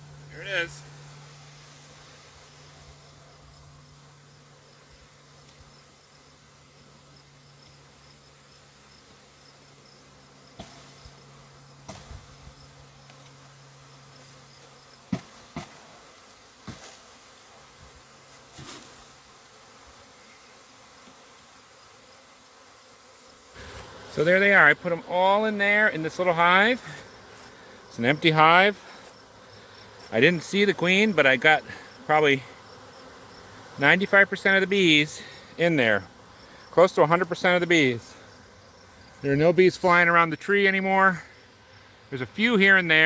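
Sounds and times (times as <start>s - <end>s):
bee swarm buzzing: 0.0s - 43.0s.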